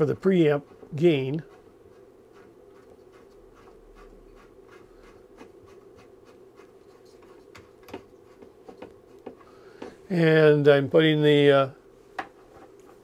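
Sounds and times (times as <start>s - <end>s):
low hum of bench equipment: 0.0s - 13.0s.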